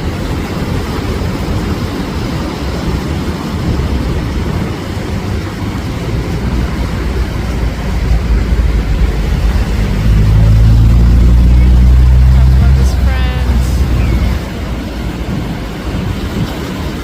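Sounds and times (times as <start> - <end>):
surf breaking on shore: 0.0 - 17.0.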